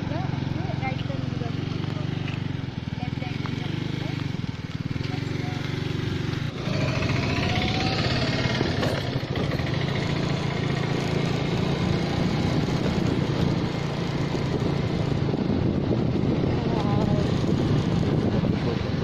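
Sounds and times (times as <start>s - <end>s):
motorbike engine running: 0.0s - 19.0s.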